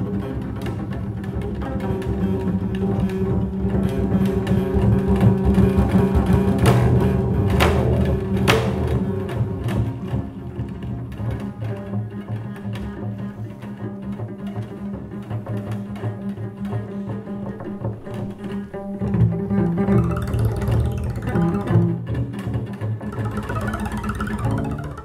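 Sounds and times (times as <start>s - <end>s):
double basses playing: 0.0s - 25.0s.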